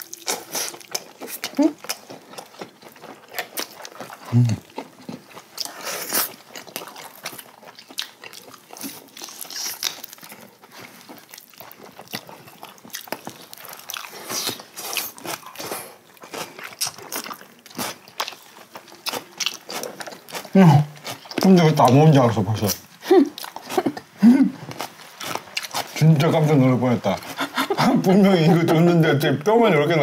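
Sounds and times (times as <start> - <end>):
chewing chicken crunches: 0.0 - 22.7, 23.3 - 26.5.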